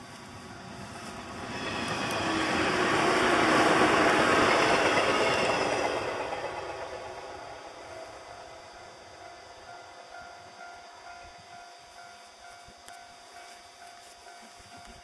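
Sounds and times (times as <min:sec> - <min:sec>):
electric train passing on rails: 0:00.0 - 0:15.0.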